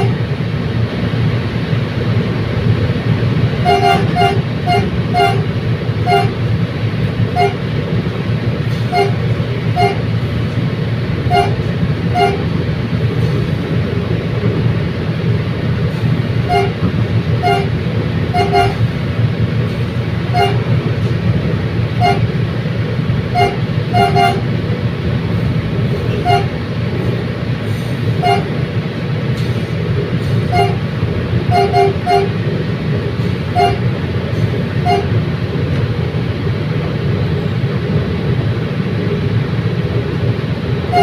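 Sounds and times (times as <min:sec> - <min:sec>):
train rumbling on track: 0:00.0 - 0:41.0.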